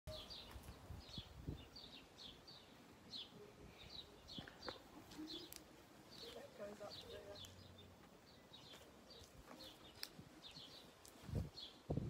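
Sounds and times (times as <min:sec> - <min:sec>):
faint bird chirps: 0:00.1 - 0:11.0.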